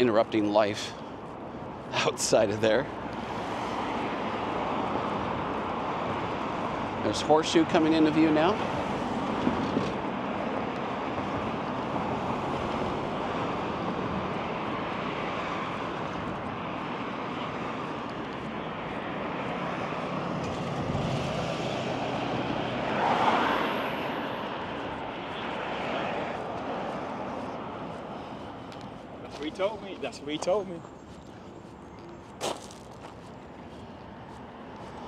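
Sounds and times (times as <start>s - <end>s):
city street traffic: 0.0s - 35.0s.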